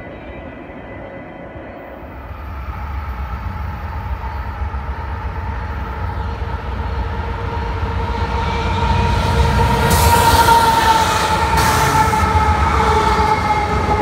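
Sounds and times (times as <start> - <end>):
diesel locomotive rumble: 2.2 - 14.0.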